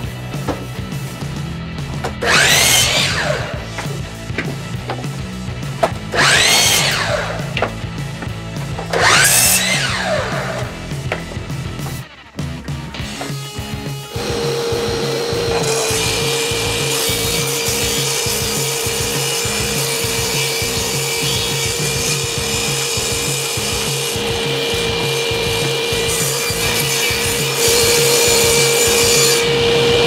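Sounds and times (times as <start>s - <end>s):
table saw cutting wood: 2.0s - 12.1s, 12.8s - 30.0s.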